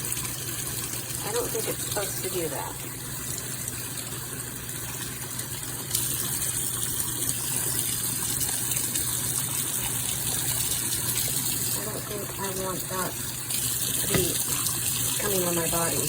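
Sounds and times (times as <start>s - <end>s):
shower head spraying water: 1.2s - 4.1s, 5.8s - 16.0s.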